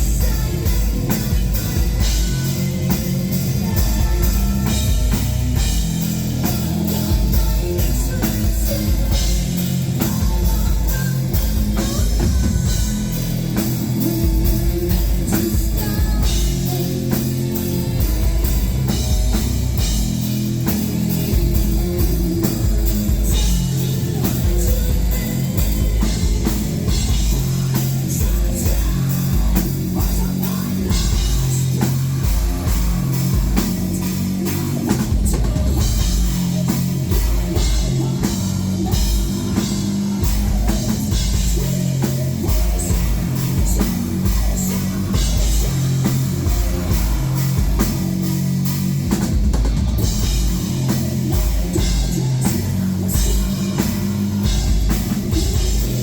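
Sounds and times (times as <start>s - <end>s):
distorted guitars: 0.0s - 56.0s.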